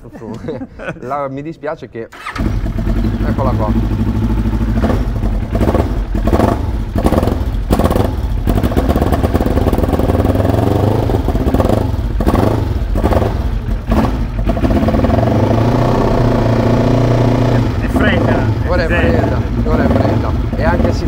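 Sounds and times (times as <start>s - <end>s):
motorcycle engine revving: 2.2s - 21.0s.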